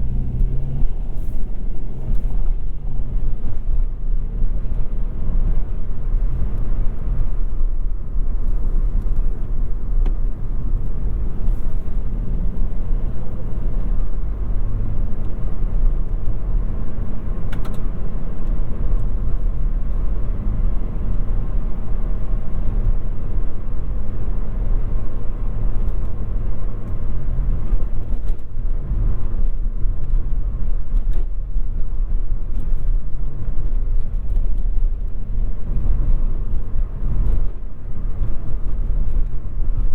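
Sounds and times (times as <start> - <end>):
car driving low rumble: 0.0 - 39.9.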